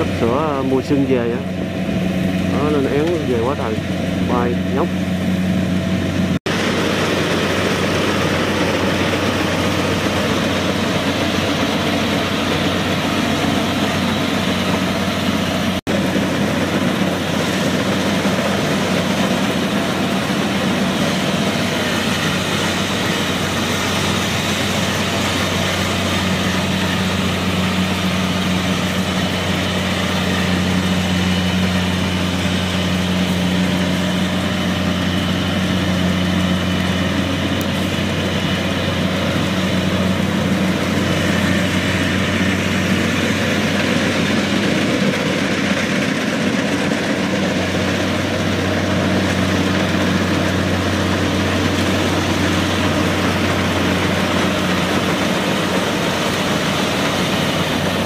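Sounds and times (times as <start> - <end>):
combine harvester engine running: 0.0 - 58.0
machinery noise: 0.0 - 58.0.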